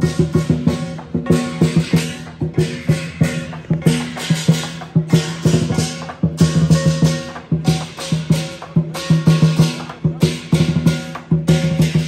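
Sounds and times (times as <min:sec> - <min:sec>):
crashing cymbals: 0:00.0 - 0:12.0
rhythmic drum music: 0:00.0 - 0:12.0.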